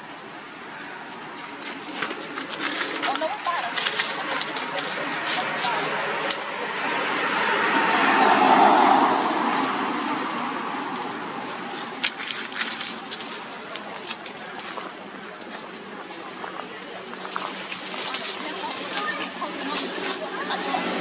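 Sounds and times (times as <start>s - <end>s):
broad rushing noise: 0.7s - 21.0s
dry leaves crackling: 0.7s - 21.0s.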